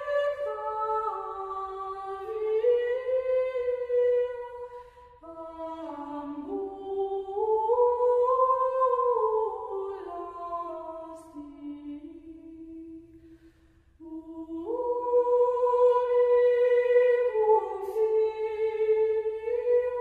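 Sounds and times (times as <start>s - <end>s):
a cappella singing: 0.0s - 20.0s.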